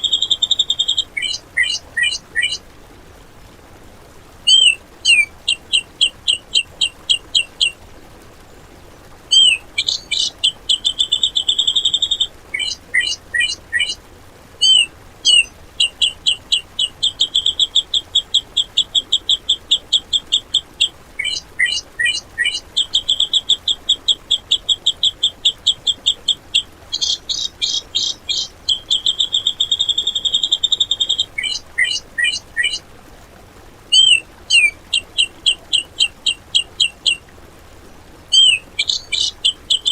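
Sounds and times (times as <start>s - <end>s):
bird singing sharp chirps: 0.0s - 2.6s, 4.5s - 7.8s, 9.3s - 14.0s, 14.6s - 32.8s, 33.9s - 37.2s, 38.3s - 39.9s.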